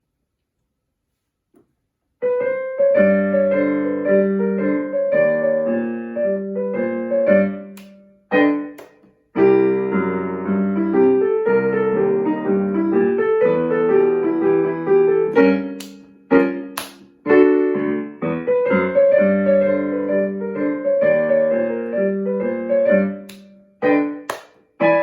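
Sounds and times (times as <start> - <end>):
solo piano: 2.2 - 25.0.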